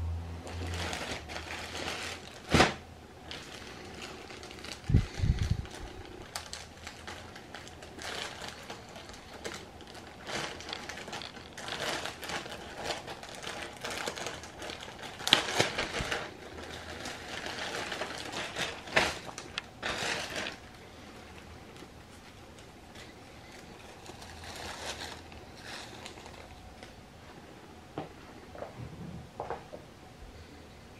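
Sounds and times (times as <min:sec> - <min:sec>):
plastic bag crinkling: 0:00.4 - 0:27.0.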